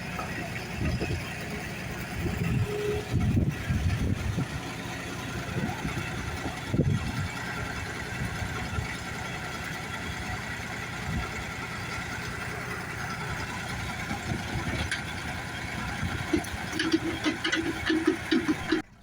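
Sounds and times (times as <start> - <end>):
backhoe digging earth: 0.0 - 19.0
tractor engine running: 0.0 - 19.0.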